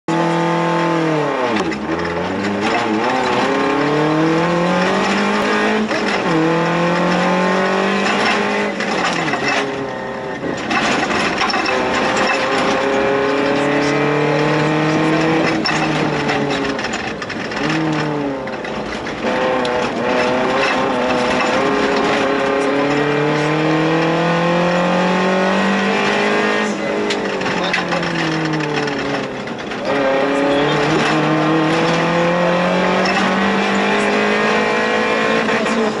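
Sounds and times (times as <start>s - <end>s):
car engine accelerating hard: 0.1s - 36.0s.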